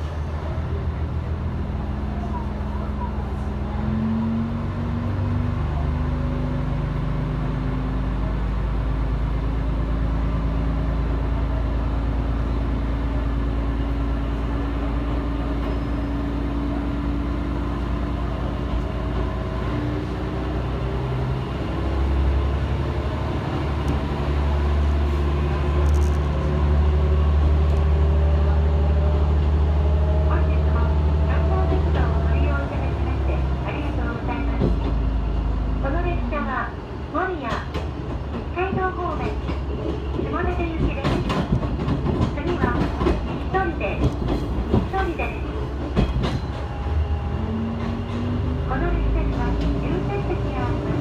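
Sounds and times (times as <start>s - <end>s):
railcar engine drone with whines: 0.0s - 51.0s
rumble of train wheels: 0.0s - 51.0s.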